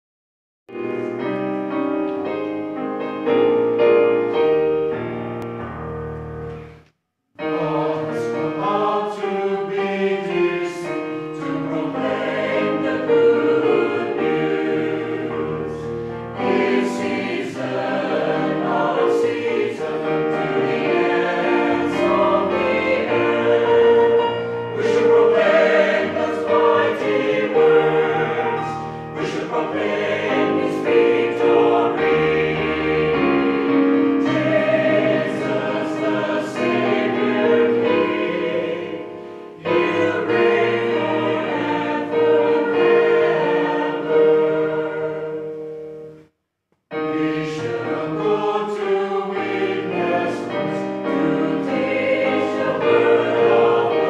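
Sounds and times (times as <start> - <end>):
choir singing in parts: 7.4 - 46.2, 46.9 - 54.0.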